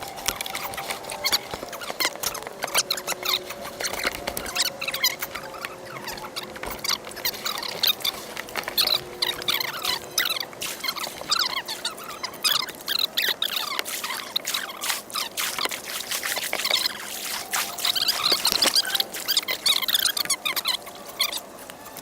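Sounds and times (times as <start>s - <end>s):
river water splashing and gurgling: 0.0s - 22.0s.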